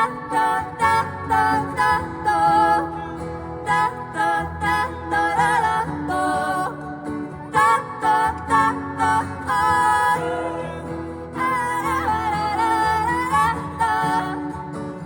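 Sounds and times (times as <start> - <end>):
acoustic guitar: 0.0 - 15.0
person singing wordless melody: 0.0 - 15.0.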